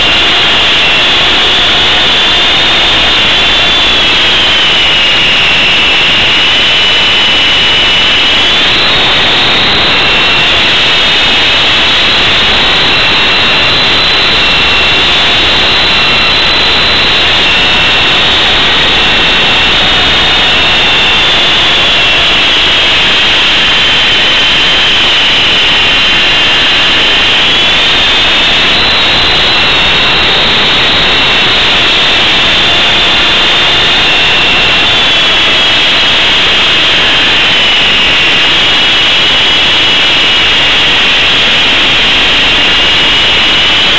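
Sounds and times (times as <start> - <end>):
rc helicopter motors whining: 0.0 - 43.9
rushing rotor noise: 0.0 - 43.9.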